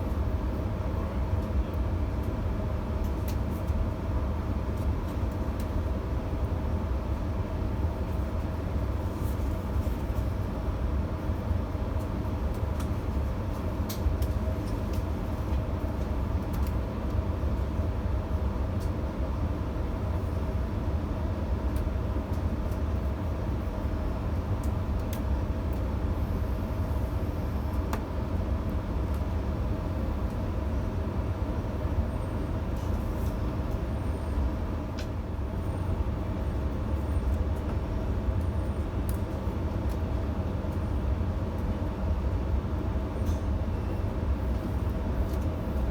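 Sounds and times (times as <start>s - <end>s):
train rumble inside carriage: 0.0s - 45.9s.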